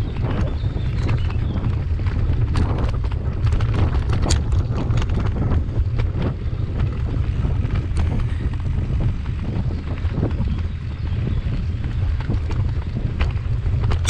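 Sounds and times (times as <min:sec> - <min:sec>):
bike clicks and knocks: 0:00.0 - 0:14.0
wind buffeting microphone: 0:00.0 - 0:14.0.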